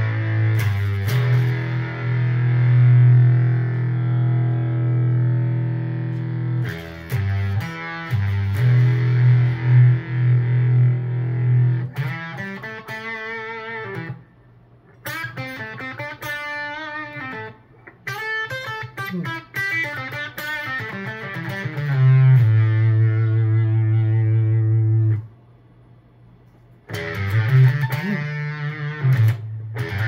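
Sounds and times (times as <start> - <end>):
fuzzed electric guitar: 0.0 - 25.8, 26.4 - 30.0.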